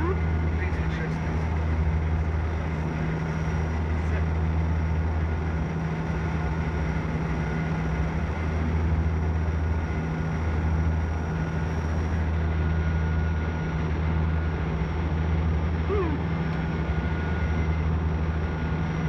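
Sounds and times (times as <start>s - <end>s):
aircraft engines droning: 0.0s - 19.0s
thin steady whine: 0.0s - 19.0s.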